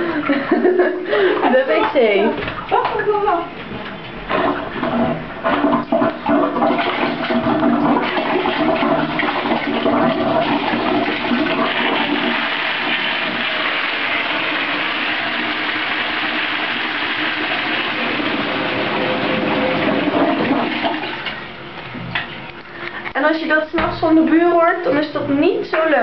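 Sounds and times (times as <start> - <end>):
toilet flushing water rush: 0.0 - 23.1.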